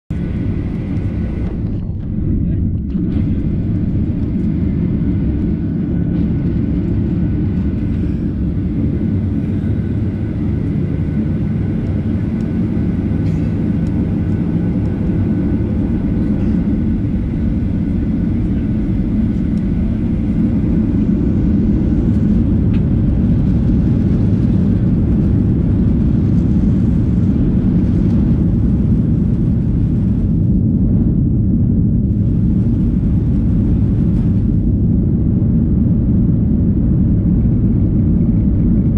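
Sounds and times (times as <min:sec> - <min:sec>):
faint high engine whine: 0:00.1 - 0:38.9
jet engines in cabin rumbling: 0:00.1 - 0:38.9.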